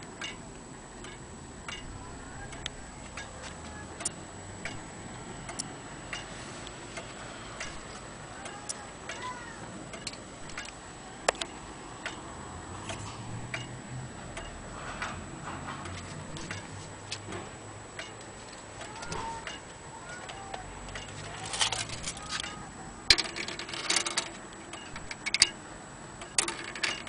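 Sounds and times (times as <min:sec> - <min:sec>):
wall clock ticking: 0:00.0 - 0:15.2, 0:15.8 - 0:27.0.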